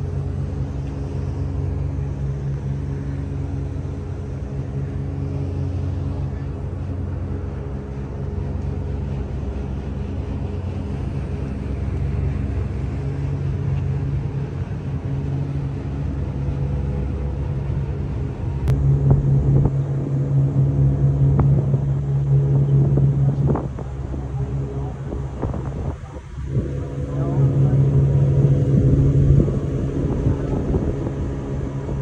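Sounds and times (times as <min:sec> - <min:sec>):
boat engines droning: 0:00.0 - 0:32.0.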